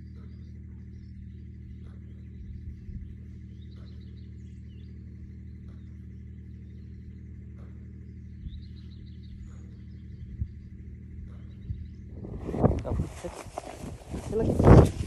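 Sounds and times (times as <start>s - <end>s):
faint bird chirps: 0.0s - 15.0s
low hum of held tones: 0.0s - 15.0s.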